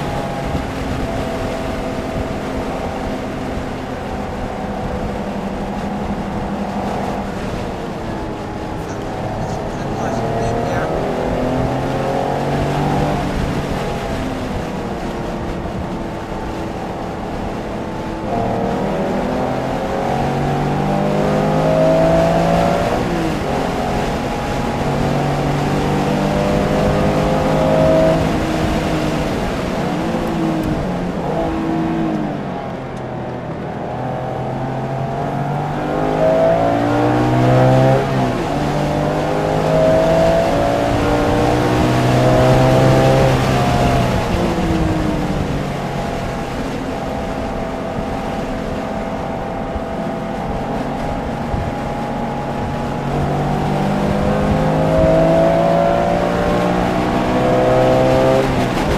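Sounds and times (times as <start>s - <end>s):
race car engine accelerating: 0.0s - 58.9s.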